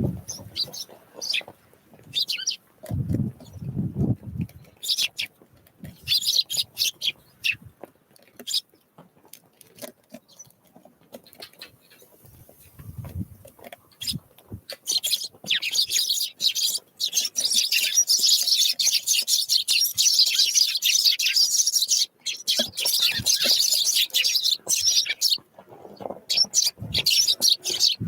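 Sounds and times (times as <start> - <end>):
small birds chirping: 0.0 - 7.8, 8.4 - 8.9, 10.1 - 10.6, 11.2 - 28.0.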